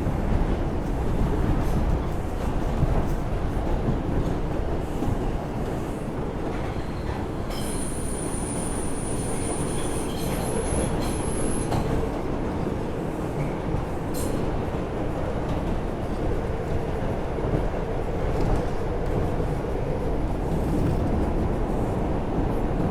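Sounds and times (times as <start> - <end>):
subway wheels rumbling on rail: 0.0 - 22.9.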